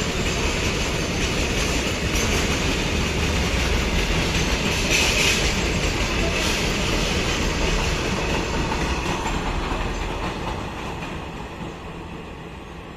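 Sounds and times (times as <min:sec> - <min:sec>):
train wheels clattering on track: 0:00.0 - 0:12.9.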